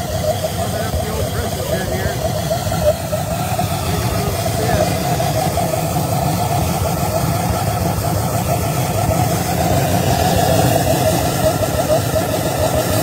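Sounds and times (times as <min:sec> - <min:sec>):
pressure jet engine running: 0:00.0 - 0:13.0.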